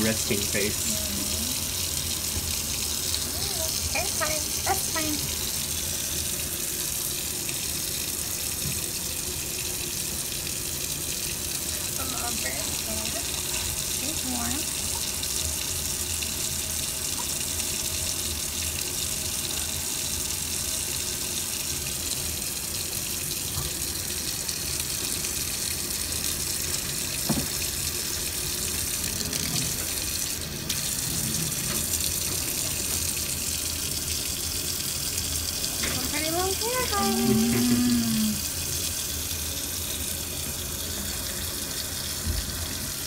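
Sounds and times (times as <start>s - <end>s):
tap water running into sink: 0.0s - 43.0s.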